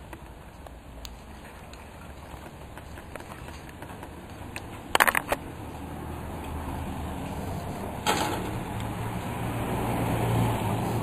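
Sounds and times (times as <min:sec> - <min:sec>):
car on wet street: 0:00.4 - 0:11.0.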